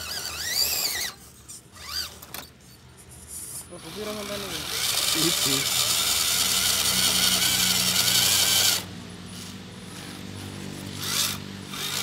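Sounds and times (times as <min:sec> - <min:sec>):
electric motor whirring: 0:00.0 - 0:02.4, 0:03.5 - 0:12.0.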